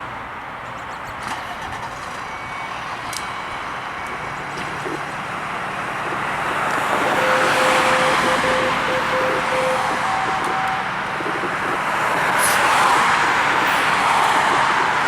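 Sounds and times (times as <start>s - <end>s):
fire engine approaching: 0.0s - 15.0s.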